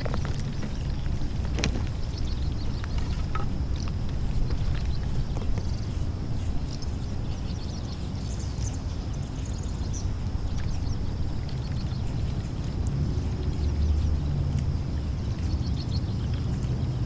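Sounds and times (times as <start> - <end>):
bird chirps: 0.0 - 17.0
steady low rumble: 0.0 - 17.0.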